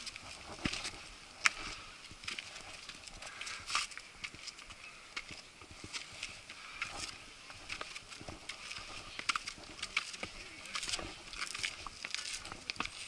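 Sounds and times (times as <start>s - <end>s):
footsteps on stone: 0.0s - 13.0s.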